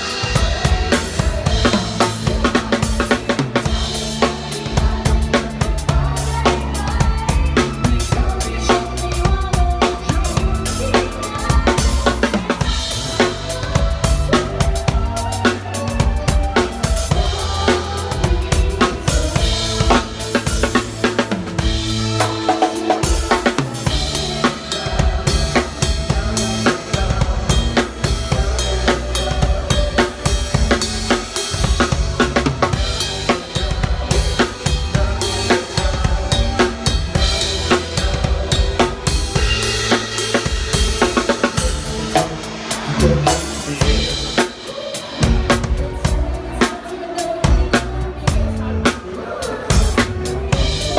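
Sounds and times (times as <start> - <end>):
drum kit playing a steady beat: 0.0 - 50.9
pop song backing track: 0.0 - 50.9.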